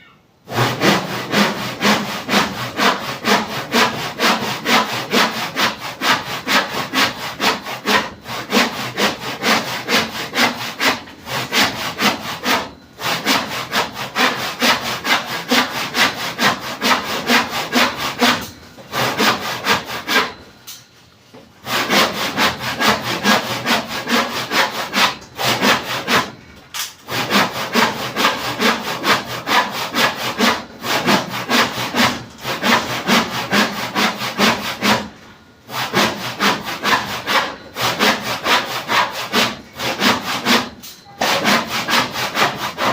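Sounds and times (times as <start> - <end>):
hand saw cutting wood: 0.5 - 20.4, 21.6 - 26.4, 27.0 - 42.9.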